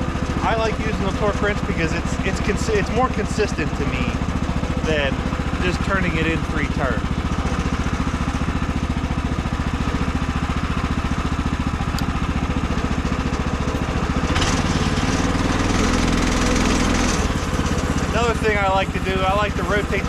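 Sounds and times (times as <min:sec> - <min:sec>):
small gasoline engine idling: 0:00.0 - 0:20.0.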